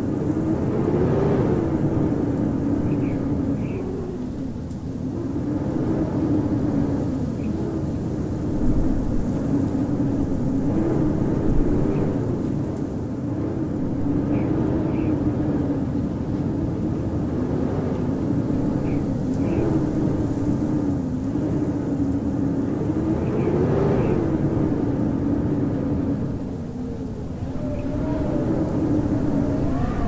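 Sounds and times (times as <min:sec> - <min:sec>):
howling blizzard wind: 0:00.0 - 0:30.0.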